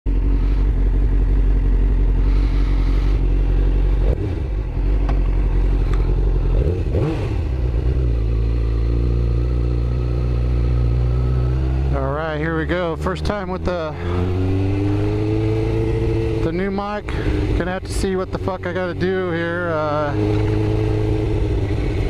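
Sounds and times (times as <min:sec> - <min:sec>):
motorcycle engine running: 0:00.1 - 0:22.0.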